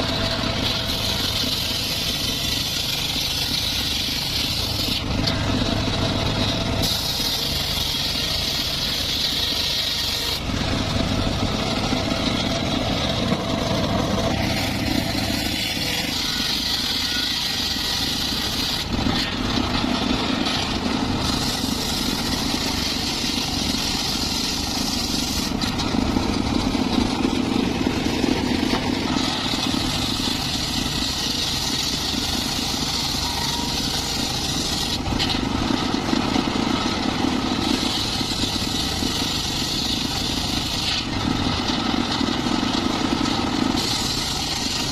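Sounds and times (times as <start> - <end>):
high cutting hiss of saw: 0.0 - 25.8, 26.6 - 41.2, 41.8 - 44.9
circular saw running: 0.0 - 44.9.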